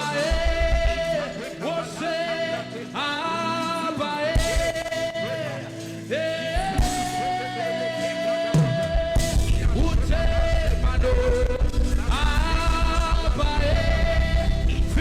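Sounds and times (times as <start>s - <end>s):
worship band with drums: 0.0s - 15.0s.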